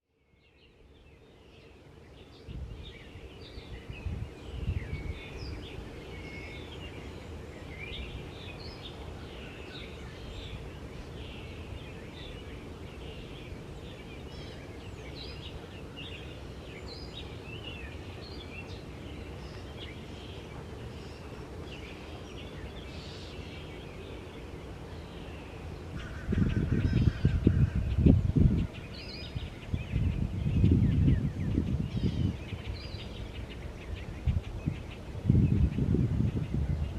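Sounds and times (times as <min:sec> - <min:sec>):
songbirds chirping and singing: 0:00.1 - 0:36.9
wind buffeting microphone: 0:02.1 - 0:22.8, 0:25.6 - 0:36.9.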